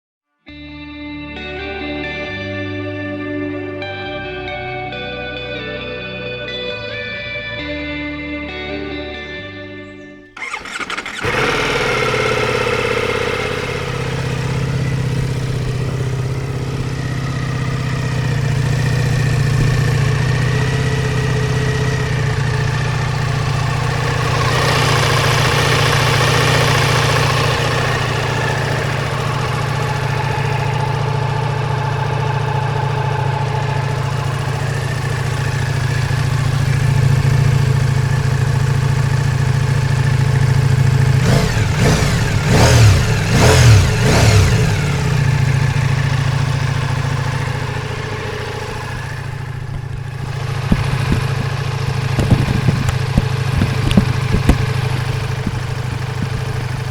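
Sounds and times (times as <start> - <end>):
motorcycle engine starting and idling: 8.5 - 56.9.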